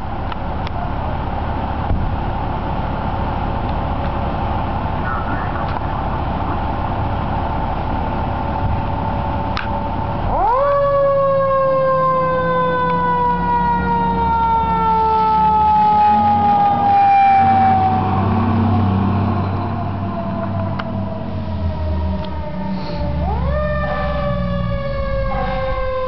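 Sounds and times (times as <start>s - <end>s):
truck engine rumbling: 0.0s - 26.0s
fire engine siren wailing: 0.2s - 26.0s.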